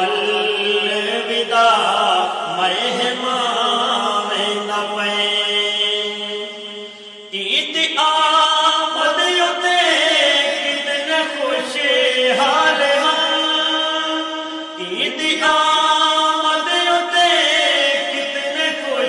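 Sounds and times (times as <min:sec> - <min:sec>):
men singing unaccompanied: 0:00.0 - 0:06.7, 0:07.3 - 0:19.0.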